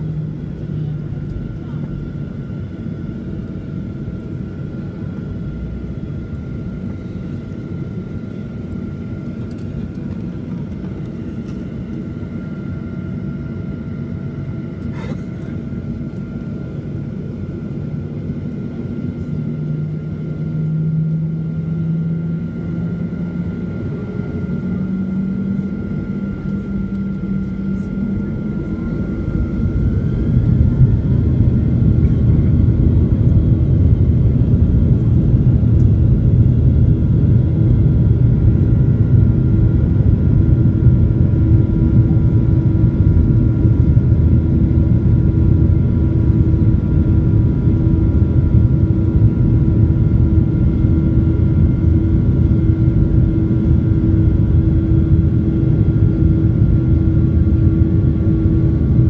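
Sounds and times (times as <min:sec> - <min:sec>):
jet engine low rumble: 0:00.0 - 0:59.0
thin jet engine whine: 0:00.0 - 0:59.0.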